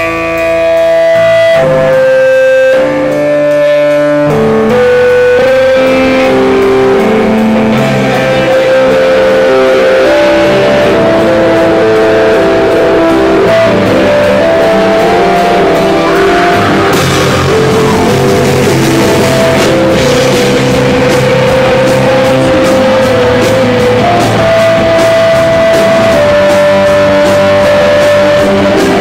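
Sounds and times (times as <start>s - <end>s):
electric guitars with held notes: 0.0s - 29.0s
rock band playing live: 0.0s - 29.0s.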